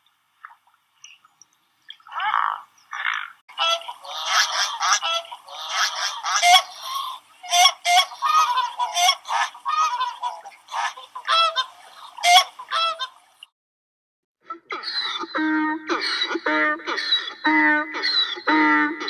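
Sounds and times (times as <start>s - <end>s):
swans calling: 2.1s - 13.4s, 14.5s - 19.0s.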